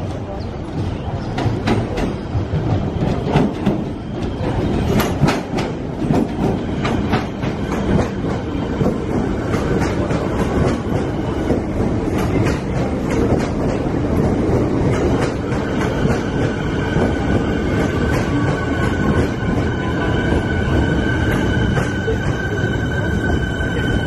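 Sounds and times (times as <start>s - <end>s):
electric train rumbling past: 0.0s - 24.0s.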